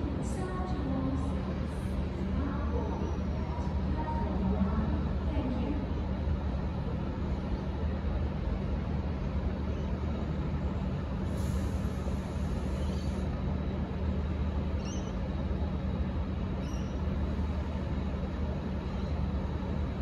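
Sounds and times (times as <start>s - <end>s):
diesel locomotive idling: 0.0s - 20.0s.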